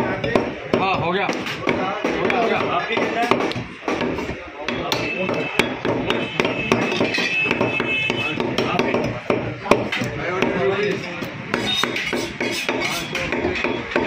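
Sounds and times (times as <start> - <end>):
cleaver chopping on wooden block: 0.2 - 14.0.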